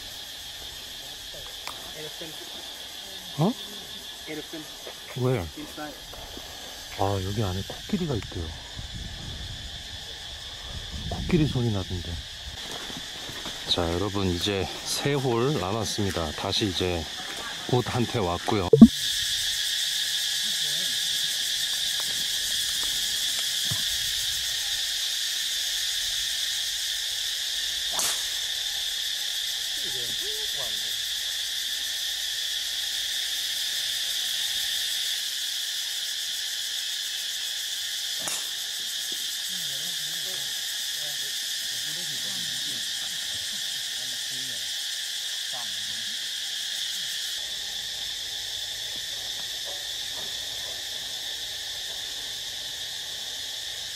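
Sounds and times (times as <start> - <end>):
insects chorus drone: 0.0 - 53.9.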